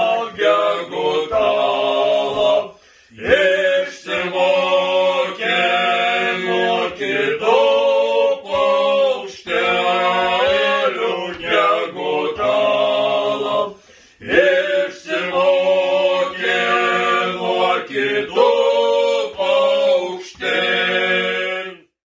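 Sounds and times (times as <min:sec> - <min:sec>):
men singing unaccompanied: 0:00.0 - 0:21.9.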